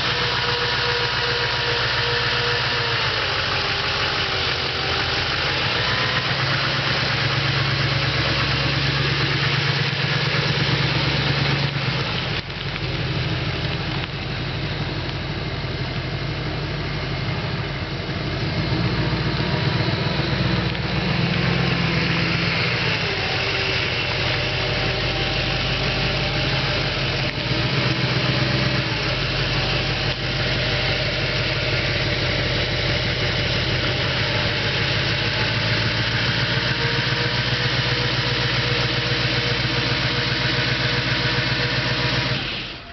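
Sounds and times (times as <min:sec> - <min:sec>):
truck engine idling: 0:00.0 - 0:42.9.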